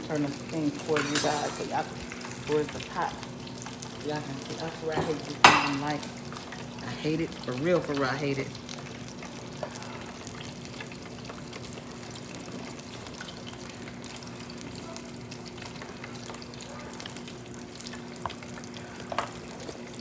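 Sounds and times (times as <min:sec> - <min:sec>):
deep-frying sizzle: 0:00.0 - 0:20.0.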